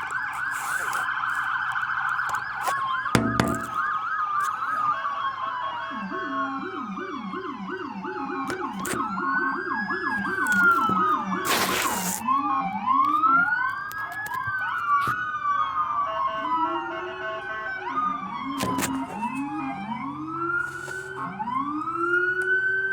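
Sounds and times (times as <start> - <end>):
emergency vehicle sirens: 0.0 - 22.9.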